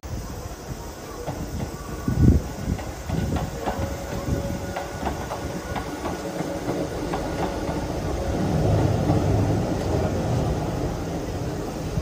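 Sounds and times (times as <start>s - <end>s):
wheels clicking over rail joints: 1.1s - 11.6s.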